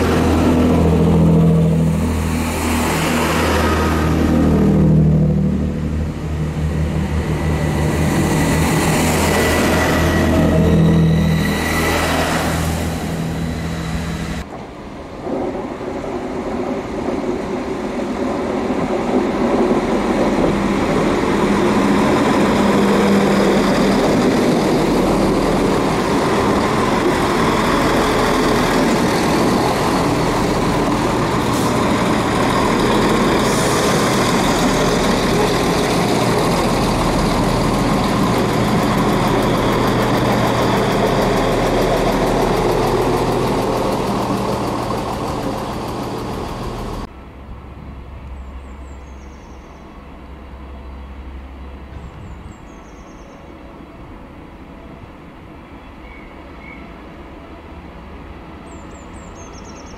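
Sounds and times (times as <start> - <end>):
diesel train engine throbbing: 0.0 - 48.4
noisy rumble: 0.0 - 48.5.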